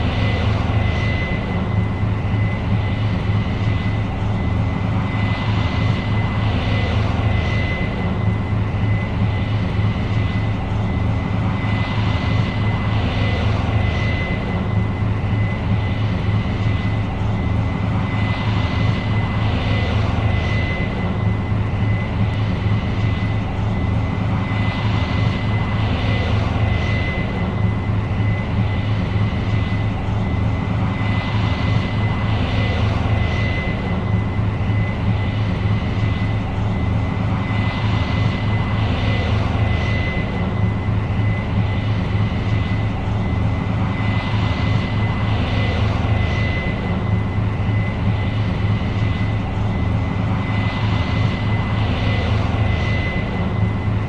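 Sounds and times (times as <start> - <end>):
combine engine drone: 0.0 - 54.0
high whine: 0.0 - 54.0.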